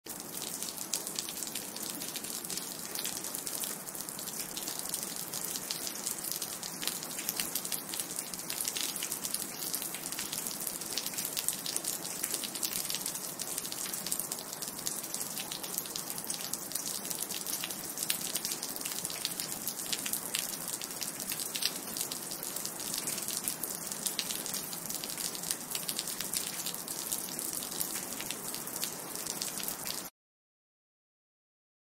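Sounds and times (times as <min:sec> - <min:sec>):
steady rain falling: 0:00.1 - 0:30.1.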